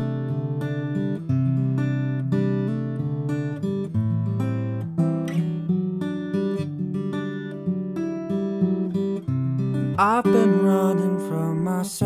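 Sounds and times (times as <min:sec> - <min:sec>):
acoustic guitar picking chords: 0:00.0 - 0:12.0
guitar strum: 0:00.0 - 0:12.0.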